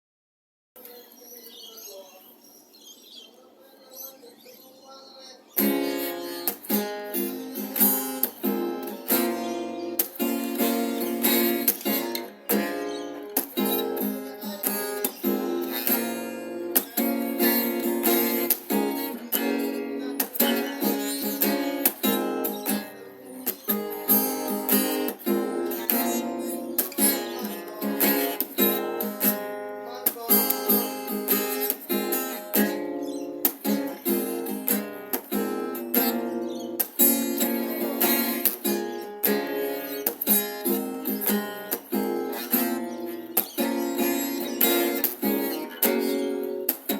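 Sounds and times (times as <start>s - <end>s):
acoustic guitar strumming: 5.6s - 46.9s.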